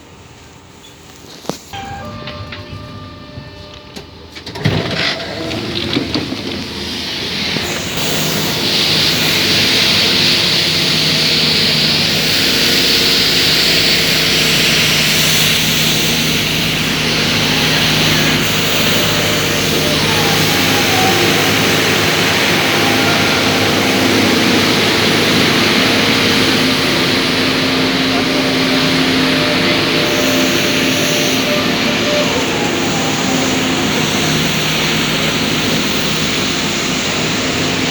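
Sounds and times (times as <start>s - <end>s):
wheels on rails rushing: 0.2s - 37.9s
tram motor hum: 1.4s - 37.9s.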